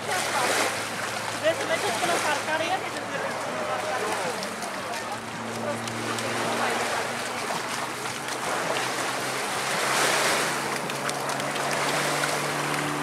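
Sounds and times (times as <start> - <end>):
distant propeller plane droning: 0.0 - 13.0.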